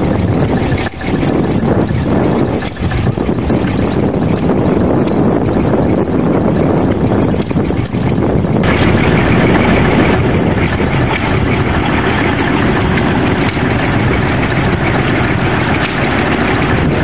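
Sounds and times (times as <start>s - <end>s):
truck and machinery engines running: 0.0s - 17.0s.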